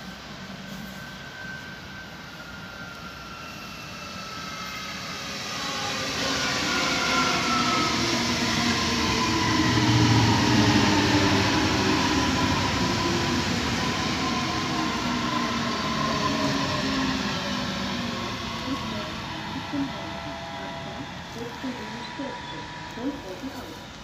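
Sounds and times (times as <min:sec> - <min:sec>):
electric train whining: 0:00.0 - 0:24.0.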